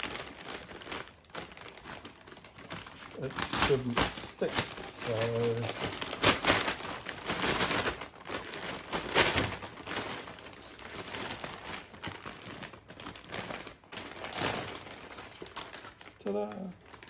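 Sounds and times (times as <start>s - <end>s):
plastic film crinkling: 0.0s - 17.0s.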